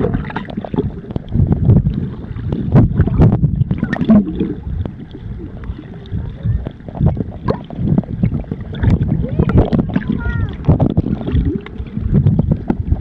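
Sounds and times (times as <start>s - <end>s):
water swishing underwater: 0.0s - 13.0s.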